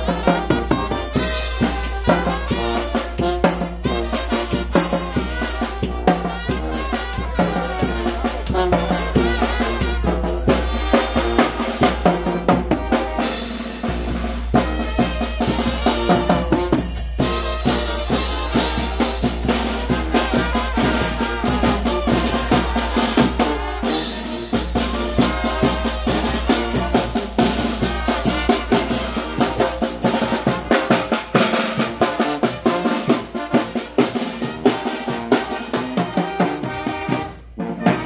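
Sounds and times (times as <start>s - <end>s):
drums and cymbal: 0.0s - 38.0s
trumpets and trombones: 0.0s - 38.0s.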